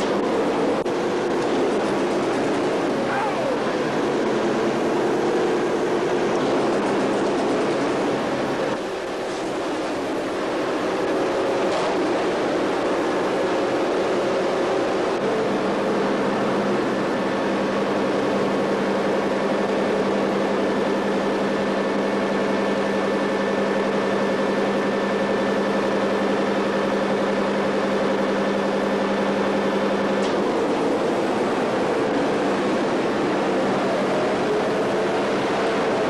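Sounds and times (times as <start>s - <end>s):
steady mechanical noise: 0.0s - 36.0s.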